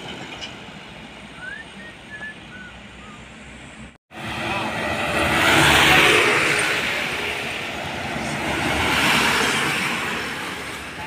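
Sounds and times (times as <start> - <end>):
trucks passing on road: 0.0 - 11.0.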